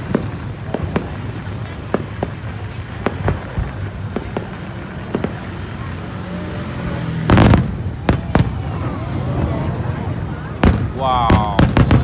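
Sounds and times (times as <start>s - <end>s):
distant fireworks bangs: 0.0s - 12.0s.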